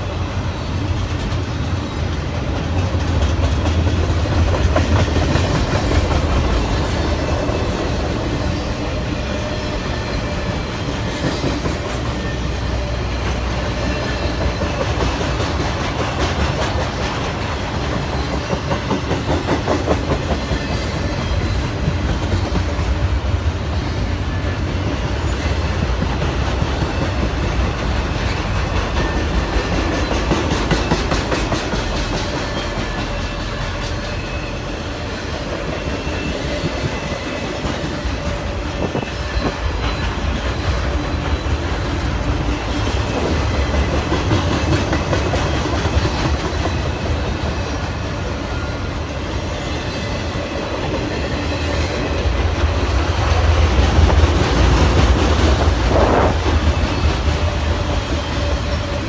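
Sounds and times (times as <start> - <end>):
clickety-clack over rail joints: 0.0 - 59.0
train wheels rumbling on rails: 0.0 - 59.0.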